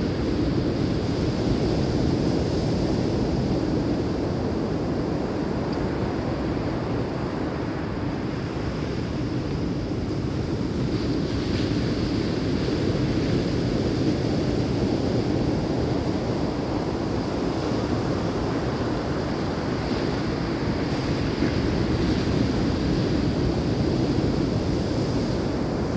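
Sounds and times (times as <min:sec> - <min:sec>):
ocean surf rushing: 0:02.6 - 0:25.9.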